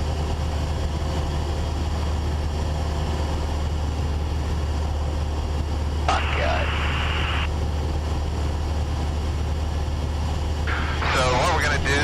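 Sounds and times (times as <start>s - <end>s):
light aircraft cabin drone: 0.0s - 12.0s.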